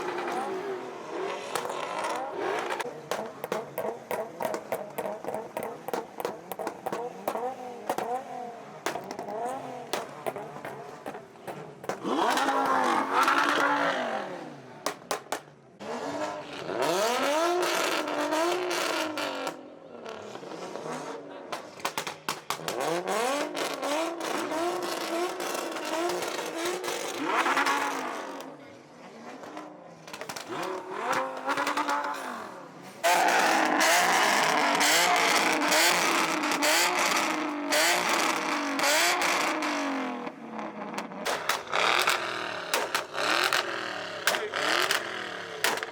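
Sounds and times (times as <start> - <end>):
exhaust pops: 0.0 - 19.6, 21.4 - 28.6, 29.3 - 45.9
car engine revving: 0.0 - 45.9.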